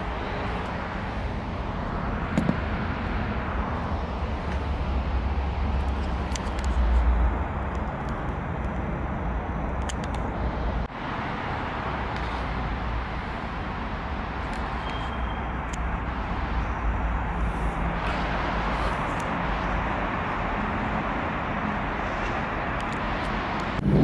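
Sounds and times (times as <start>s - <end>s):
traffic rumble and hiss: 0.0s - 24.0s.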